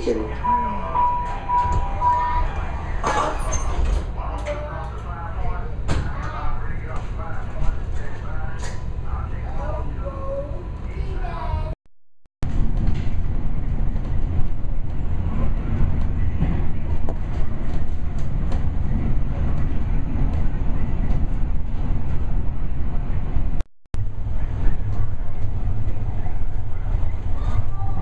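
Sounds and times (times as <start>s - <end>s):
railcar rumbling along track: 0.0s - 11.7s, 12.5s - 28.0s.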